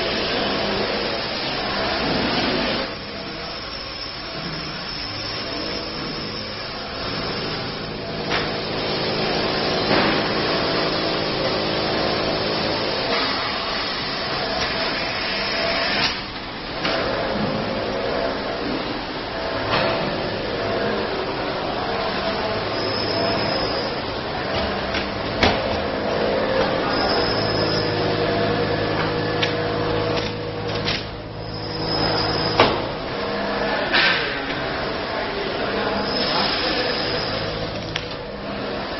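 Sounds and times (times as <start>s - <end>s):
film cutting machine running: 0.0s - 38.9s
rewinding shafts whirring: 0.0s - 38.9s.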